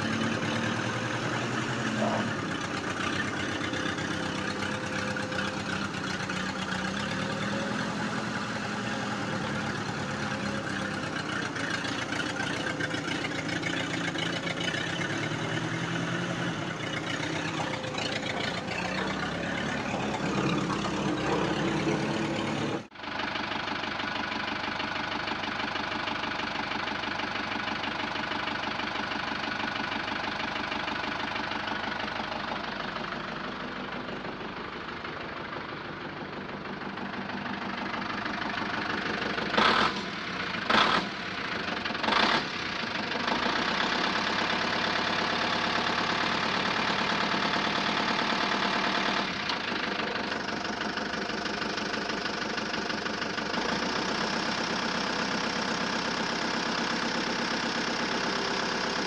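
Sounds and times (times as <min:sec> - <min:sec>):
heavy truck engine running: 0:00.0 - 0:59.0.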